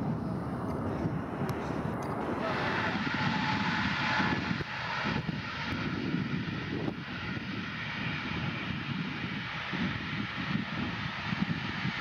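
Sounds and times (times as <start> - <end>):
airplane engine rumble: 0.0 - 12.0.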